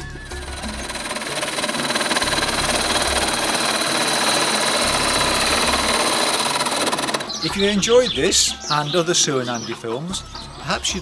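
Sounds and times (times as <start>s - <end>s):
turning tool cutting wood: 0.0s - 9.8s
lathe motor whining: 0.0s - 10.5s.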